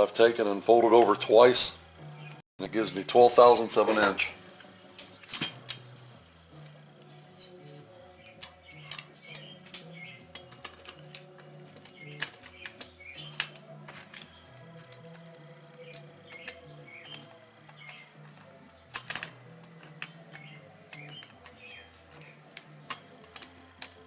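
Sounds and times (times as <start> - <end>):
rock music playing quietly: 0.0 - 24.0
metal tools clinking: 3.5 - 24.0.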